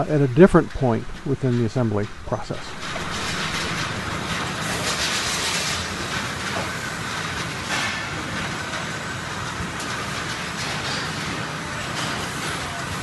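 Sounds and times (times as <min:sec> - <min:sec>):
factory machinery rumble and hiss: 0:00.0 - 0:13.0.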